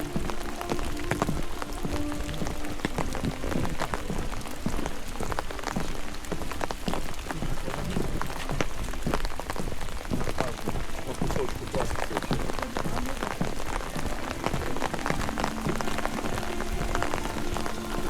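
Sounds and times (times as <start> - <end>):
raindrops ticking: 0.0 - 18.0
steady rain falling: 0.0 - 18.0.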